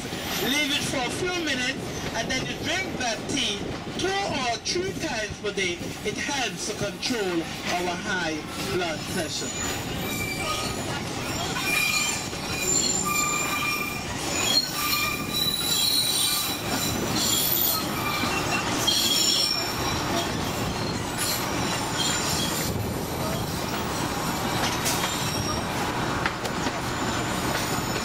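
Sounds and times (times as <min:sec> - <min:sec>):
steel wheels squealing on rails: 0:00.0 - 0:02.9, 0:06.8 - 0:28.0
train rumbling along track: 0:00.0 - 0:28.0.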